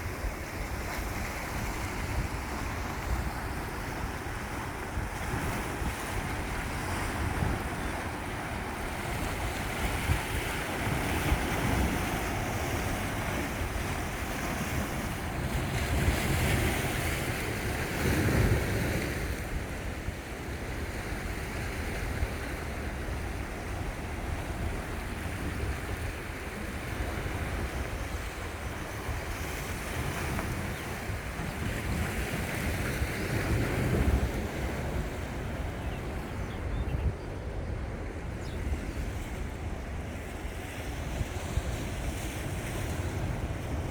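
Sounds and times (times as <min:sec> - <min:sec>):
sea waves washing onto shore: 0:00.0 - 0:43.9
wind rumbling on microphone: 0:00.0 - 0:43.9.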